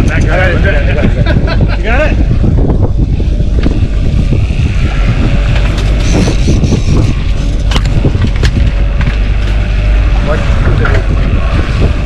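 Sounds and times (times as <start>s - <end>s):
boat motor running: 0.0s - 12.0s
wind on microphone: 0.0s - 12.0s.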